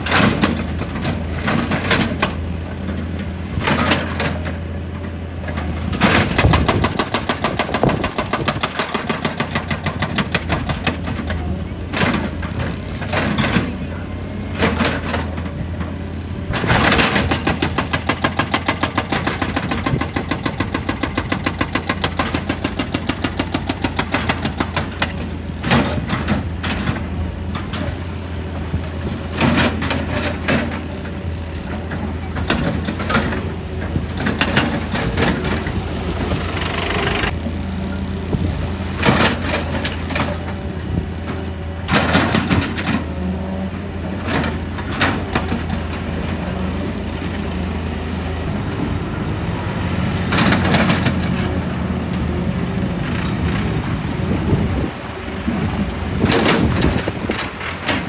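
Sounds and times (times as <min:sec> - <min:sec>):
sharp clanks and knocks: 0:00.0 - 0:13.9, 0:14.5 - 0:37.4, 0:38.0 - 0:43.4, 0:44.2 - 0:47.4, 0:48.4 - 0:58.0
excavator diesel engine running: 0:00.0 - 0:58.0.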